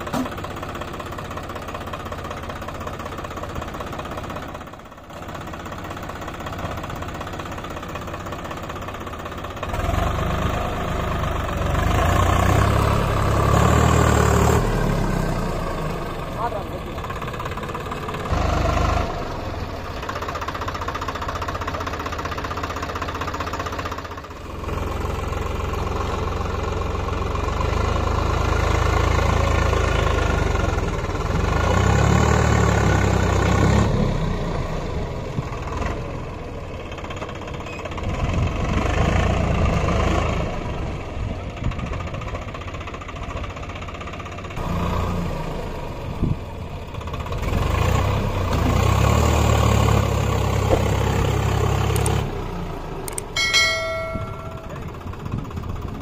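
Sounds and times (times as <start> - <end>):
diesel tractor engines running: 0.0 - 56.0.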